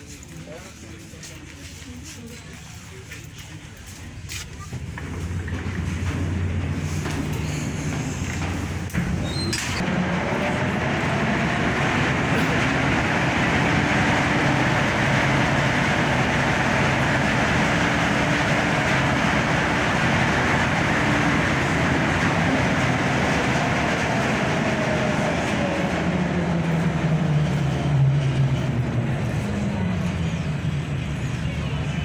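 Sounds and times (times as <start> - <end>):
boat engine drone: 4.6 - 32.0.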